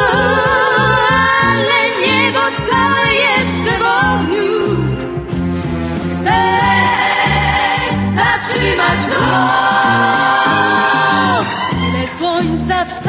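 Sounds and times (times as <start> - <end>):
pop song with held sung notes: 0.0 - 13.0.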